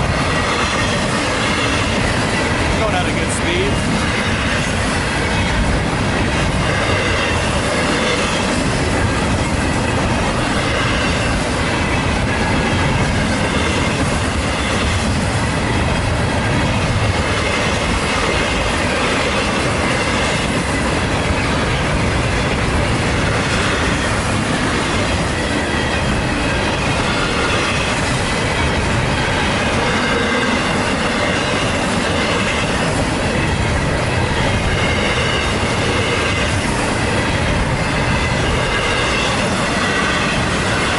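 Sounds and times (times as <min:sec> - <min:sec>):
freight train wheels on rails: 0:00.0 - 0:40.9.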